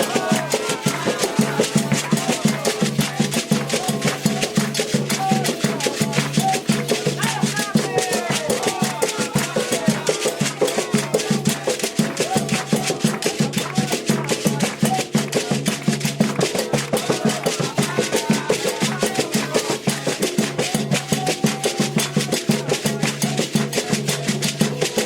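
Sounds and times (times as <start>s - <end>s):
voices chanting: 0.0s - 15.6s, 16.4s - 24.4s
hand drums: 0.0s - 25.0s
shaken percussion: 0.0s - 25.0s.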